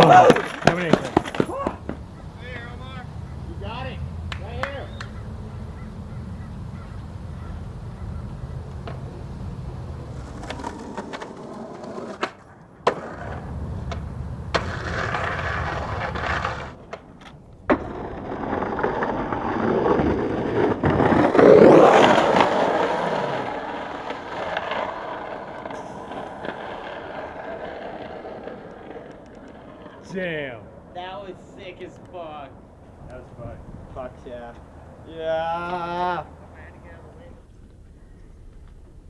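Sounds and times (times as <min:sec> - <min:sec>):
skateboard clacks: 0:00.0 - 0:30.2, 0:32.8 - 0:37.4
skateboard wheels rolling on concrete: 0:00.0 - 0:39.0.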